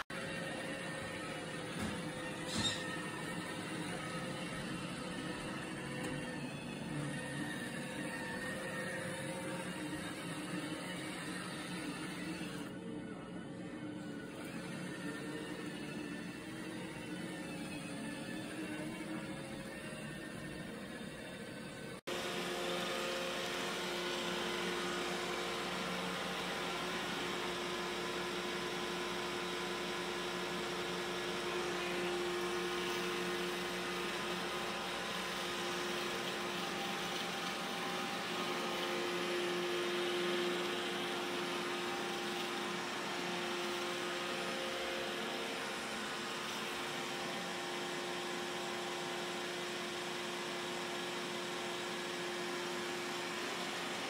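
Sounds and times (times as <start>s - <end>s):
robot vacuum whirring: 0.2s - 54.0s.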